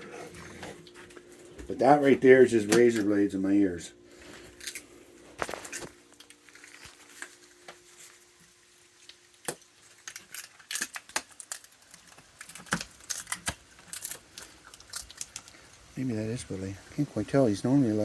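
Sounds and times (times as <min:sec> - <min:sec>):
animals cracking shells and chewing: 0:00.0 - 0:03.3, 0:04.0 - 0:17.5.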